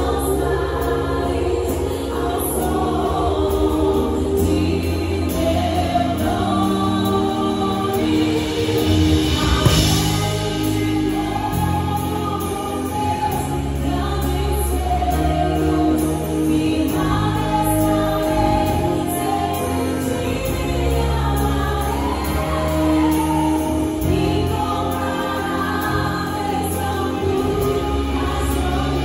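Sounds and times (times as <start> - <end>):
group of singers: 0.0 - 29.0
live band playing: 0.0 - 29.0.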